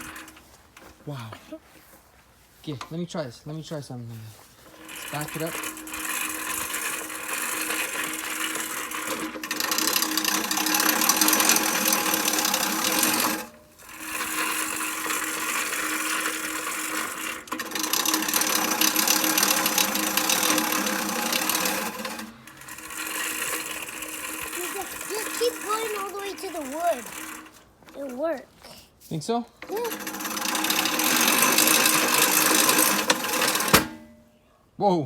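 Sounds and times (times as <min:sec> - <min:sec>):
push reel mower whirring: 0:00.0 - 0:02.0, 0:02.7 - 0:34.2.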